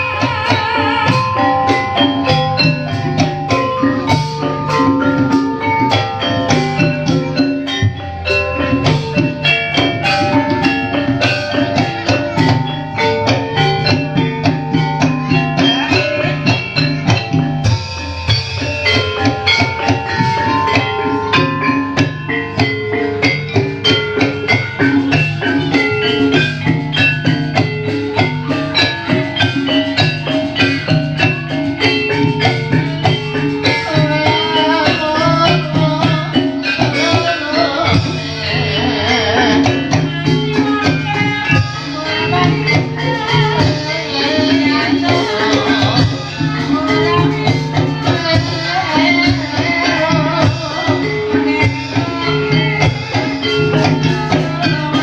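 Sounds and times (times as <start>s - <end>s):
continuous drumming: 0.0s - 55.0s
mallet-struck metallophone melody: 0.0s - 55.0s.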